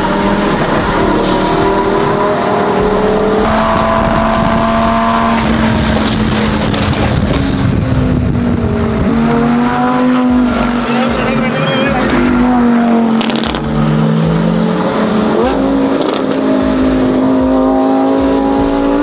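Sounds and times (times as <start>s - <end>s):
sports car engine running: 0.0s - 19.0s.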